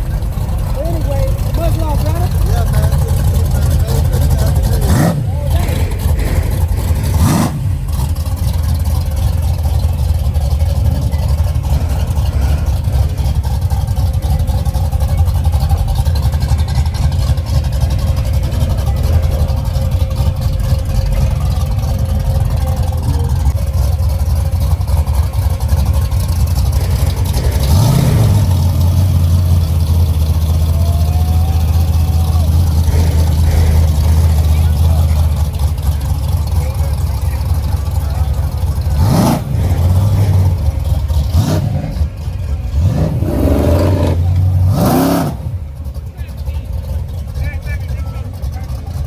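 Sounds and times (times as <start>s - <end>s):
car engine rumbling: 0.0s - 49.0s.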